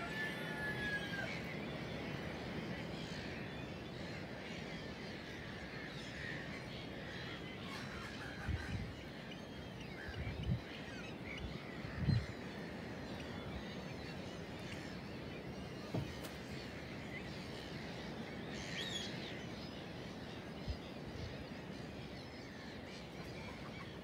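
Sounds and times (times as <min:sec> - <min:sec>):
flock of gulls calling: 0:00.0 - 0:24.0.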